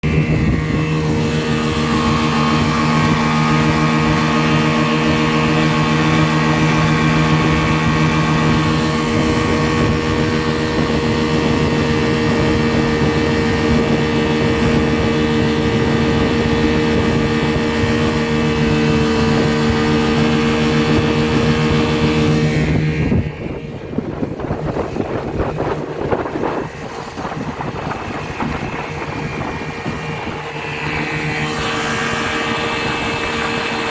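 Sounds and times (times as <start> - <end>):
choppy water noise: 0.0 - 33.9
outboard motor running: 0.0 - 33.9.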